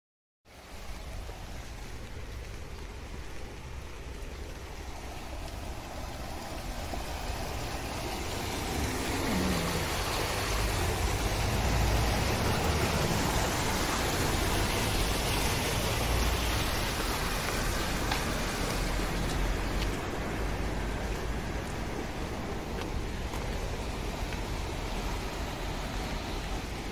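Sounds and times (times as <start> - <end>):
water rushing down a channel: 0.5 - 26.9.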